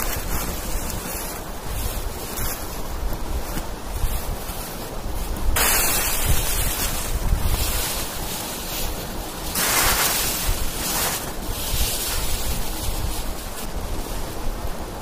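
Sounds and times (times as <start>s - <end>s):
dry leaves rustling and crackling: 0.0s - 15.0s
wind buffeting microphone: 0.0s - 15.0s.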